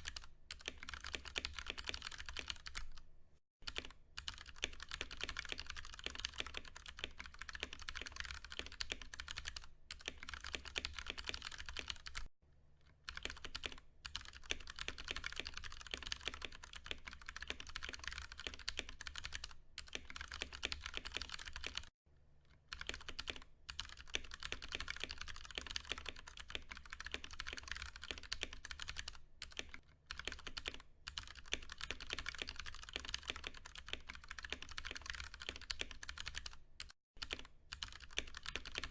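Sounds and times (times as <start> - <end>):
fast typing on mechanical keyboard: 0.0 - 3.0, 3.6 - 12.3, 13.1 - 21.9, 22.7 - 38.9.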